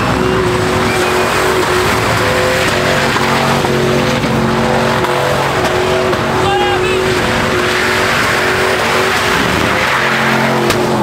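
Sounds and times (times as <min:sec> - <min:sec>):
car engine at high revs: 0:00.0 - 0:11.0
tyres squealing on pavement: 0:00.0 - 0:11.0.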